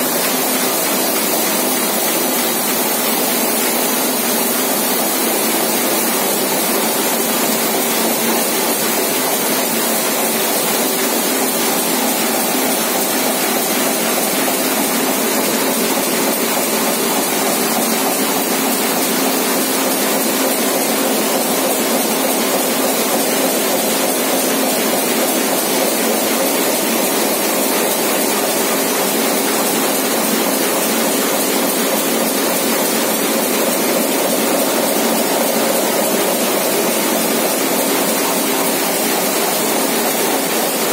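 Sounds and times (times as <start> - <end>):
printing press whirring: 0.0 - 40.9.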